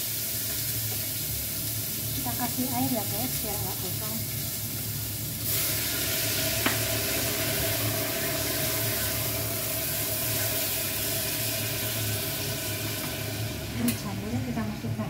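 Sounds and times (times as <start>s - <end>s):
water sizzling in hot pot: 0.0s - 15.0s.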